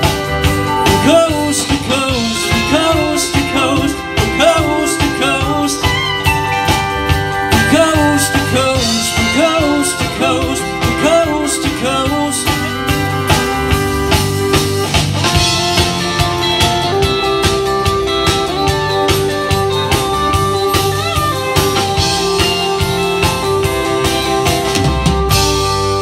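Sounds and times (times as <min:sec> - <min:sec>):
bass guitar: 0:00.0 - 0:26.0
electric guitars: 0:00.0 - 0:26.0
fiddle lead: 0:00.0 - 0:26.0
steady drum beat: 0:00.0 - 0:26.0.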